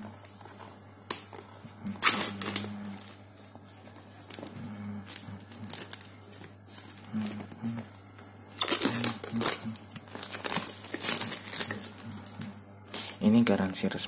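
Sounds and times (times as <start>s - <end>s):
plastic wrap crinkling: 0.0s - 14.0s.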